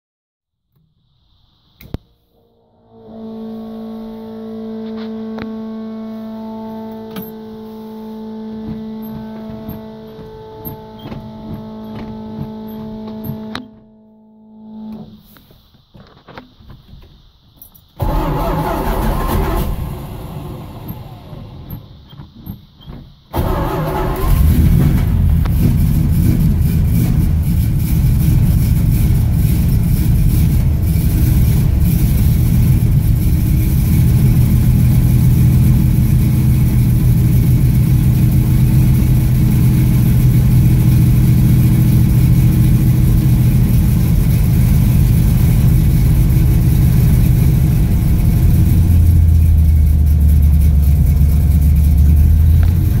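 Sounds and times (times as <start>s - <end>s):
car engine starting and idling: 1.8s - 15.4s, 17.6s - 53.0s.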